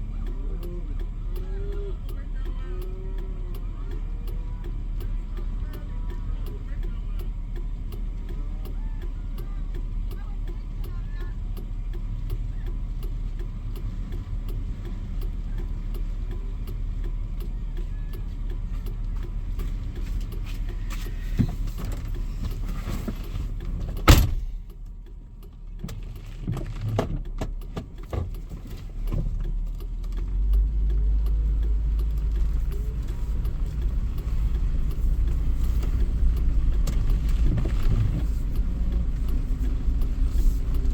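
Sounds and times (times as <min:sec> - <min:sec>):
motor vehicle rumbling: 0:00.0 - 0:40.9.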